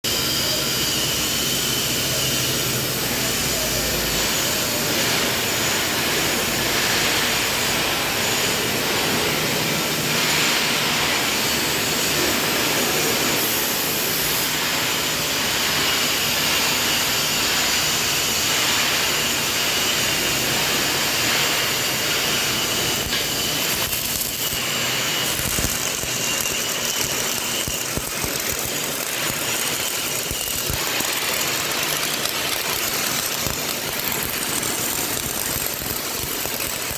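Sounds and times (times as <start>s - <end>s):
welding arc crackling buzz: 0.1s - 36.9s.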